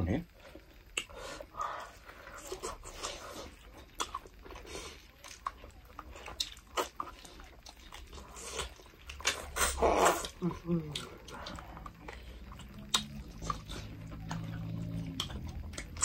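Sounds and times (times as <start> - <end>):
chewing meat: 0.5 - 16.0.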